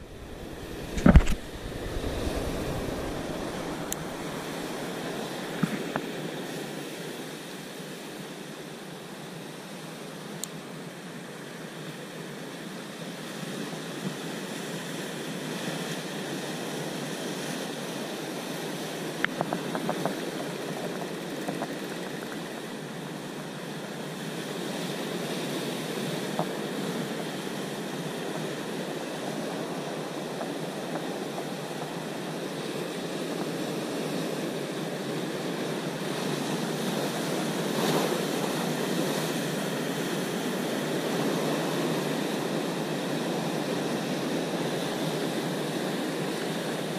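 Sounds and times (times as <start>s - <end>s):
surf washing over rocks: 0.0s - 9.5s, 10.6s - 46.9s.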